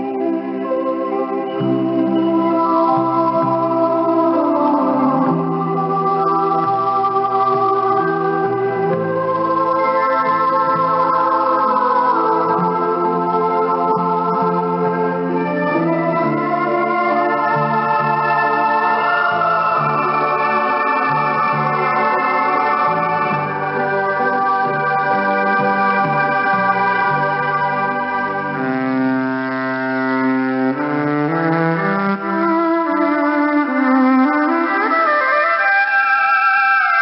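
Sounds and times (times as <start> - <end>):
electric violin melody: 0.0 - 37.0
electronic keyboard chords: 0.0 - 37.0.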